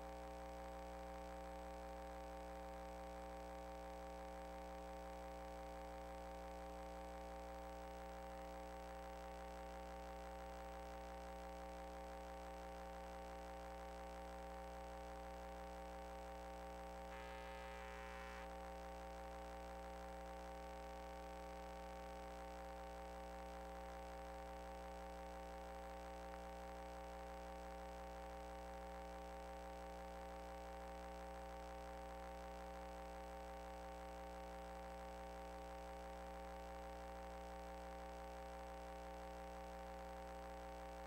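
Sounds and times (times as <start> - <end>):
faint electrical hum: 0.0 - 41.0.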